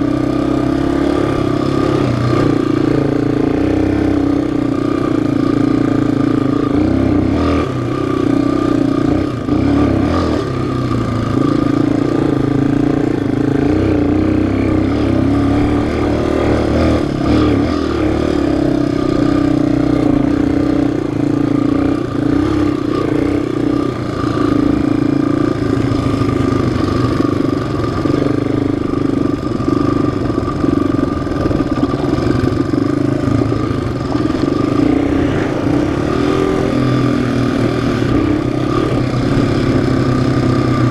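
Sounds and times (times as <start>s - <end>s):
off-road engine running: 0.0s - 40.9s.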